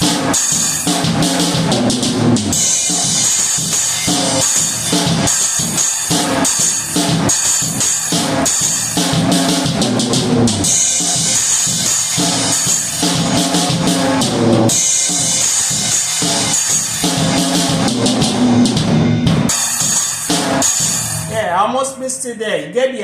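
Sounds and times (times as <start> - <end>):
drum kit beat: 0.0 - 21.8
backing music: 0.0 - 22.1.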